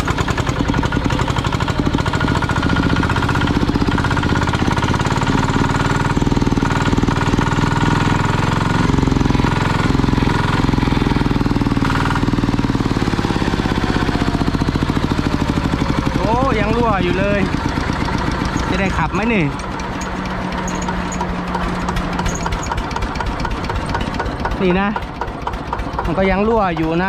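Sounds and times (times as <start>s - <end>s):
diesel engine knocking: 0.0s - 27.0s.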